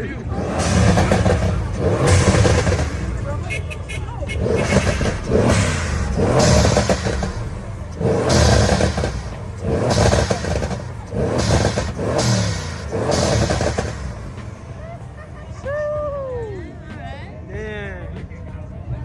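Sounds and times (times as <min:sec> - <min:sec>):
car engine revving hard: 0:00.0 - 0:15.6.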